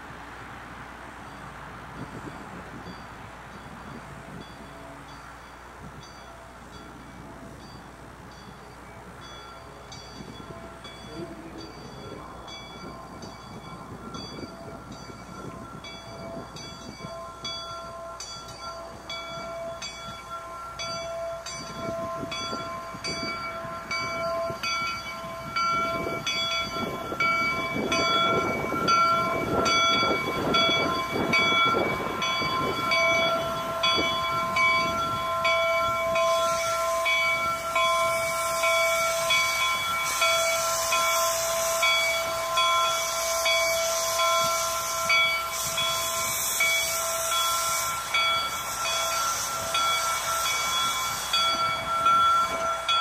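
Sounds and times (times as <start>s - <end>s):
train rumble: 0.0s - 53.0s
train wheels clicking: 1.4s - 53.0s.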